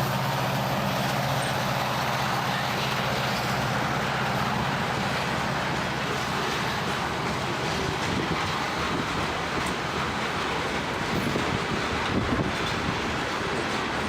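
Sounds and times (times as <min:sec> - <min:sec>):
rolling traffic rush: 0:00.0 - 0:14.0.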